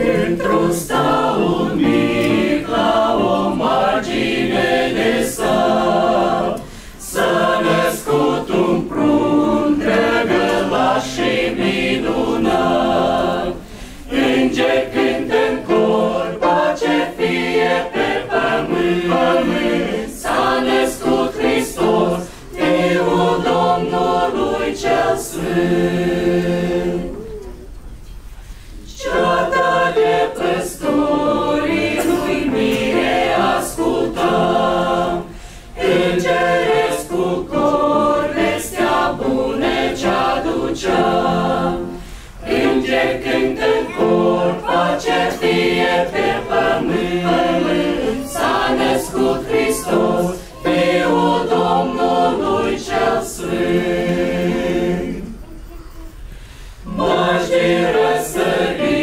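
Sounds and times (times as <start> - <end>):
mixed choir singing a carol: 0.0 - 27.5, 28.5 - 59.0.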